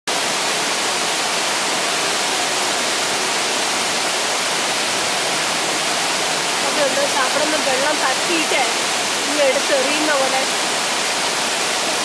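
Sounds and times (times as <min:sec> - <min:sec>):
waterfall rushing: 0:00.1 - 0:12.0.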